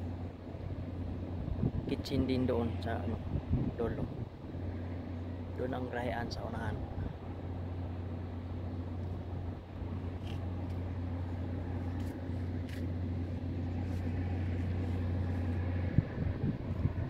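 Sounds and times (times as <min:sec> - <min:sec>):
low machine hum: 0:00.0 - 0:17.0
outdoor background noise: 0:00.0 - 0:17.0.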